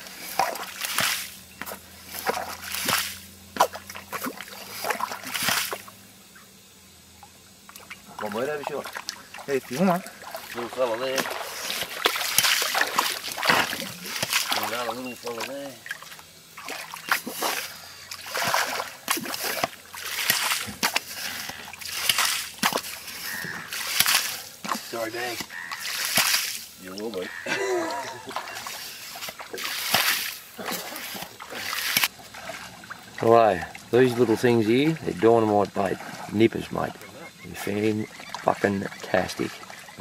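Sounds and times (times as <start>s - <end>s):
pump sucking and splashing mud: 0.0s - 6.0s, 7.7s - 40.0s.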